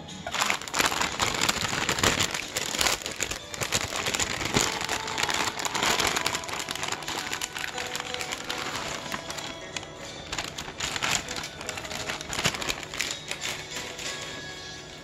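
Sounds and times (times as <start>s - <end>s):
plastic bag crinkling: 0.2s - 15.0s.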